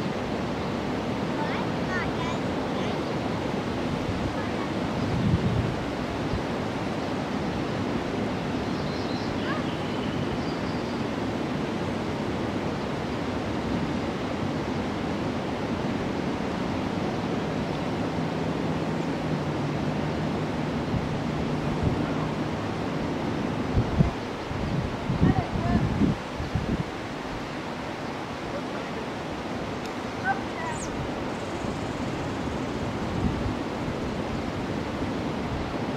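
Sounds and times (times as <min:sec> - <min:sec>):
steady rushing outdoor noise: 0:00.0 - 0:35.9.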